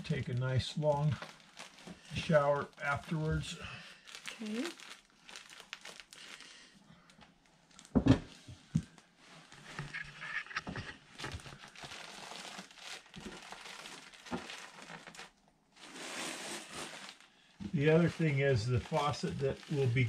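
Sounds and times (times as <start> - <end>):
insulation crinkling and rustling: 0.0 - 6.4, 7.1 - 20.0.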